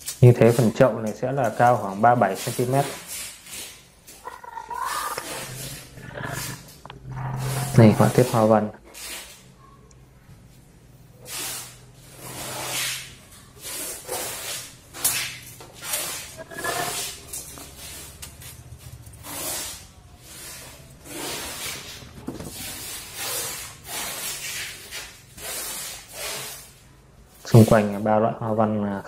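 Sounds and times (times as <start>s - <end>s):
hissing rubbing noises: 0.3s - 9.5s, 11.2s - 26.8s.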